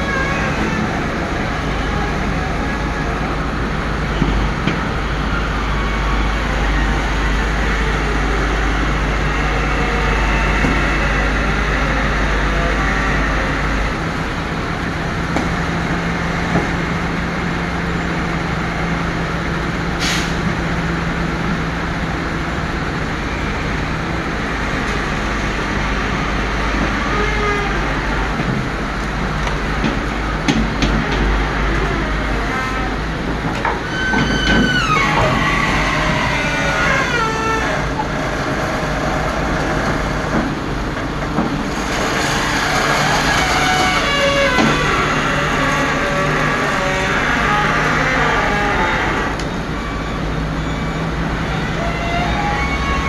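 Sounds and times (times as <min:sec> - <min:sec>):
backhoe engine running: 0:00.0 - 0:53.0.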